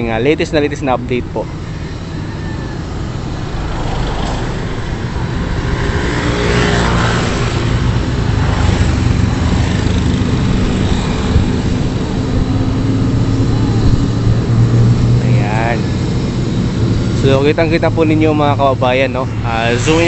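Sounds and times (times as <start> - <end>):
drone propellers humming: 0.0 - 20.0.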